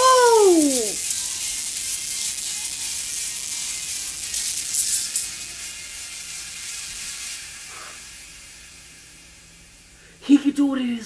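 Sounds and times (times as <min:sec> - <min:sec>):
harsh hissing grinding noise: 0:00.0 - 0:10.3.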